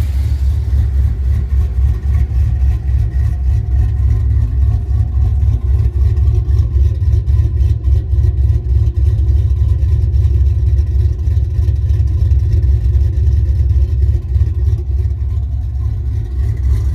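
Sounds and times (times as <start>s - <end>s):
truck engine rumbling: 0.0s - 16.9s.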